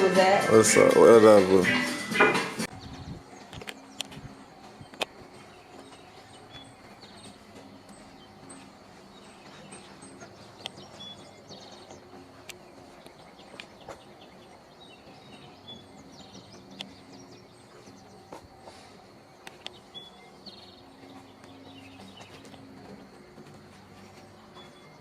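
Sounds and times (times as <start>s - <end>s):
songbirds trilling: 2.6s - 25.0s.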